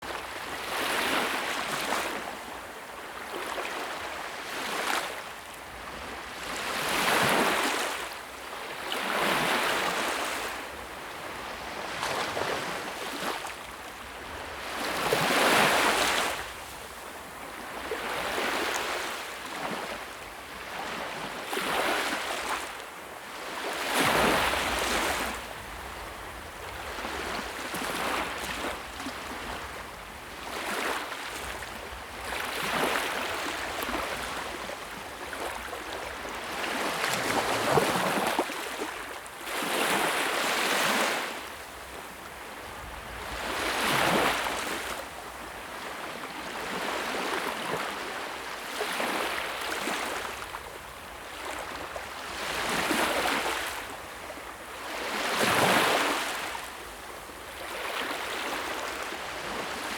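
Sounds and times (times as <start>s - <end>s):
sea waves breaking on shore: 0.1s - 59.9s.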